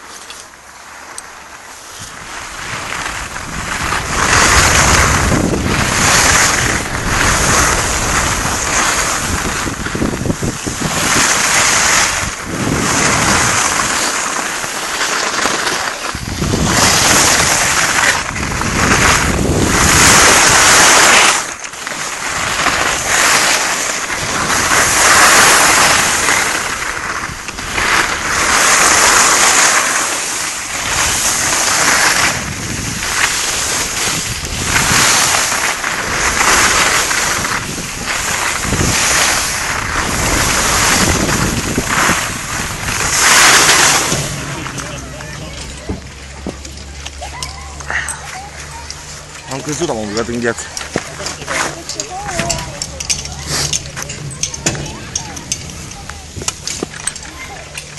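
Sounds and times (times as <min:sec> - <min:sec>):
skis scraping on packed snow: 0:00.0 - 0:57.9
wind rushing over microphone: 0:01.9 - 0:48.0, 0:48.6 - 0:57.9.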